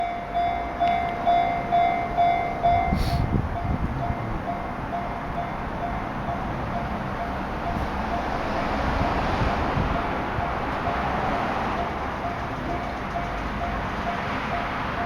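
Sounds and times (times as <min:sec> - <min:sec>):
level-crossing warning bell: 0:00.0 - 0:15.0
road traffic noise: 0:00.0 - 0:15.0
train passing rumble: 0:00.0 - 0:15.0.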